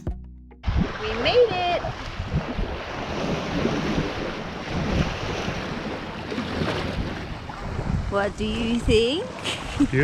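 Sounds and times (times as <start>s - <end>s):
wind buffeting microphone: 0.6s - 10.0s
sea waves washing on shore: 0.7s - 10.0s.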